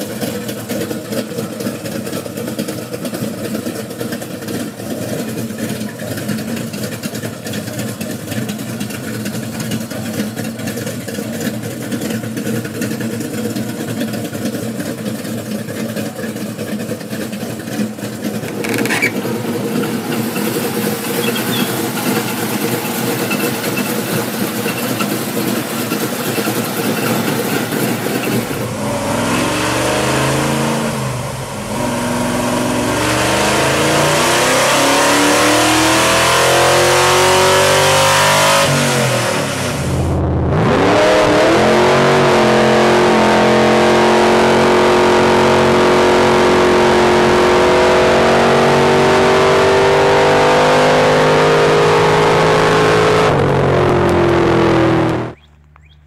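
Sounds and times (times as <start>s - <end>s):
car engine revving: 0.0s - 56.0s
car engine running roughly: 0.0s - 56.0s.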